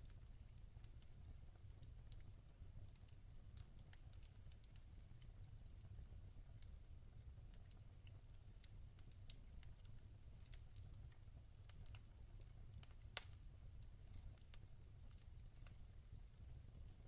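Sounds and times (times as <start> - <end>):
log fire crackling: 0.0 - 17.0.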